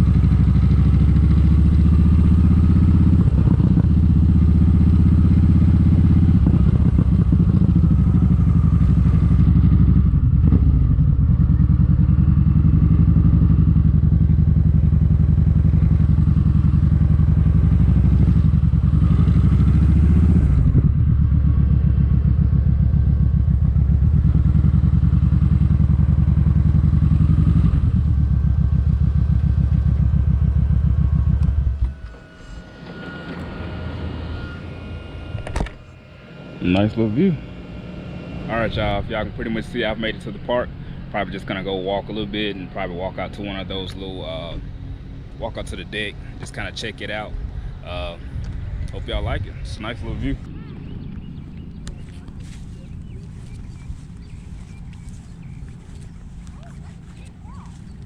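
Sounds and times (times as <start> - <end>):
motorcycle engine running at low revs: 0.0 - 58.0.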